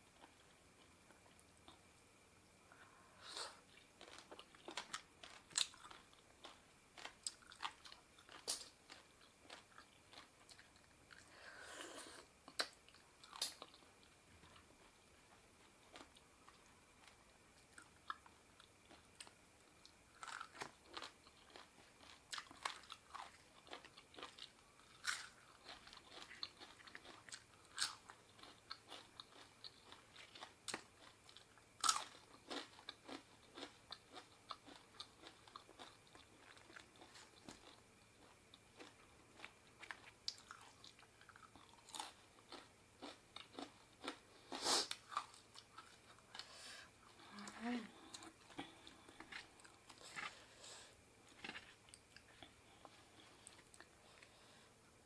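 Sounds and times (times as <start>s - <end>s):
person chewing and crunching: 3.7s - 11.3s, 12.4s - 47.4s, 48.0s - 50.5s, 51.2s - 54.4s.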